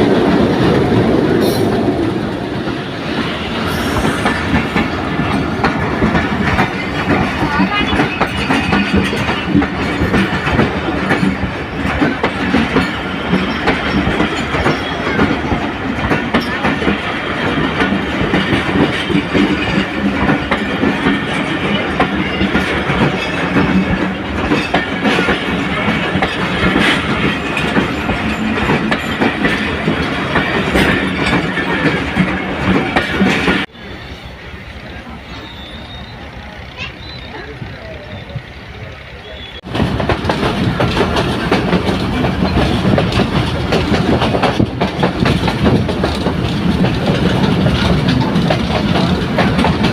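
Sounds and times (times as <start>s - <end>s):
train wheels clattering on rail joints: 0.0s - 33.7s, 39.4s - 49.9s.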